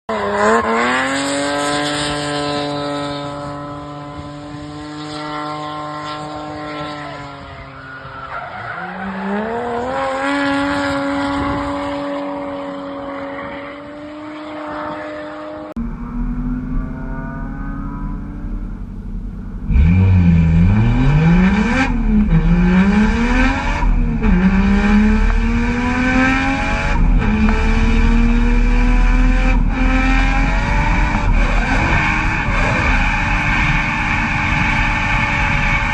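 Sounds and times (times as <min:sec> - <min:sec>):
car engine revving: 0:00.1 - 0:35.9.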